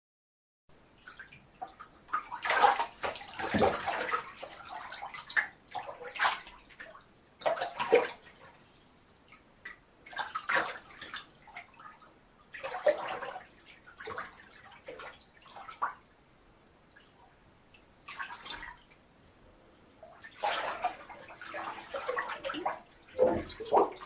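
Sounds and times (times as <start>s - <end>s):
water splashing in a bathtub: 0.8s - 24.0s
water dripping and trickling: 0.9s - 24.0s.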